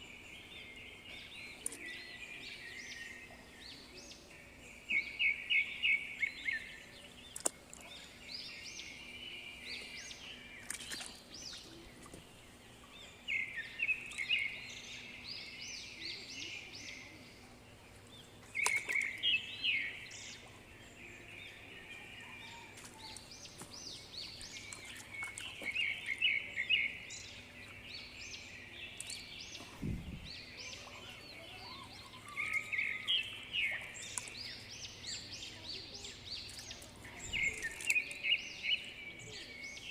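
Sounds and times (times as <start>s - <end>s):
birds chirping: 0.0s - 39.9s
faint steady hum: 0.0s - 39.9s.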